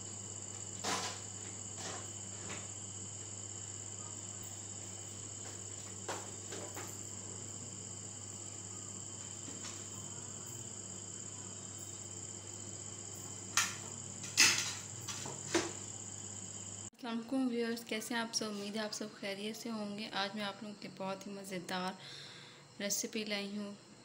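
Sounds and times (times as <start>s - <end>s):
crickets trilling: 0.0s - 24.0s
low electrical hum: 0.0s - 24.0s.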